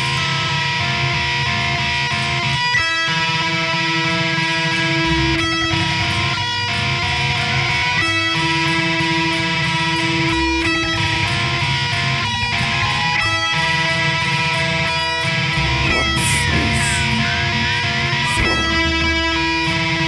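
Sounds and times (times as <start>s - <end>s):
electric guitar riff: 0.0s - 20.0s
hard rock band playing live: 0.0s - 20.0s.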